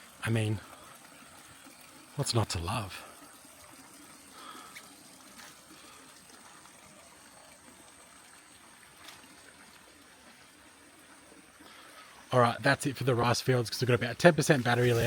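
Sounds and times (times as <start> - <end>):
faint trickling water: 0.0 - 15.0.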